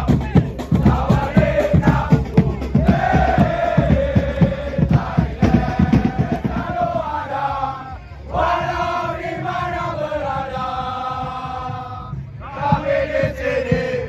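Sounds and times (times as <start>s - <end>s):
crowd chanting in unison: 0.0s - 14.0s
crowd singing a long note: 0.0s - 14.0s
drums beating: 0.0s - 14.0s.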